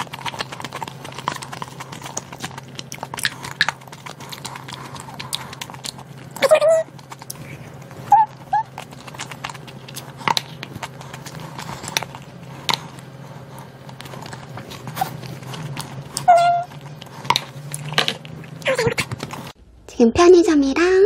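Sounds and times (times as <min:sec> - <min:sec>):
wet eating clicks and lip smacks: 0:00.0 - 0:19.5.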